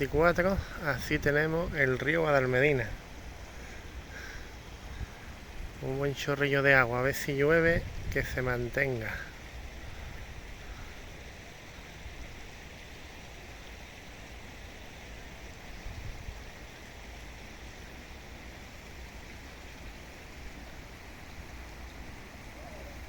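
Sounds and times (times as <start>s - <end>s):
water flowing in a river: 0.0s - 23.0s.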